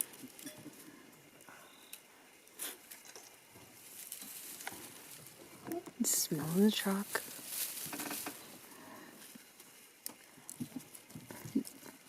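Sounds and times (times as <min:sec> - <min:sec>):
animals pattering and rustling: 0:00.0 - 0:12.0.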